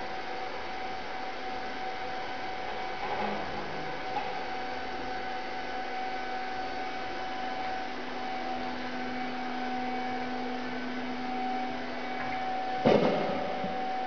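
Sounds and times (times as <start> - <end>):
electric machine hum with whine: 0.0 - 14.0.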